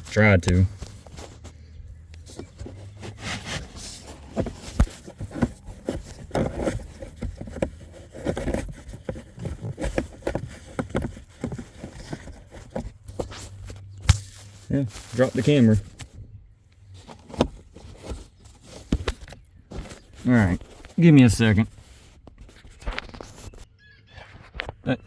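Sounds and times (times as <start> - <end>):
plastic scraping and knocking: 0.0 - 16.2, 16.9 - 23.6.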